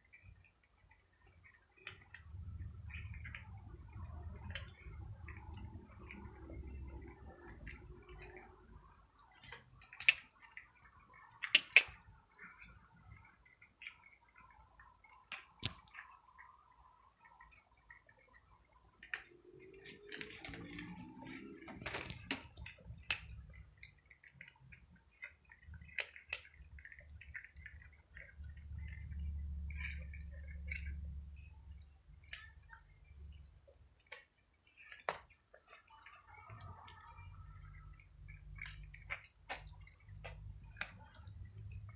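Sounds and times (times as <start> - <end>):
cats chewing dry kibble: 0.0 - 41.9.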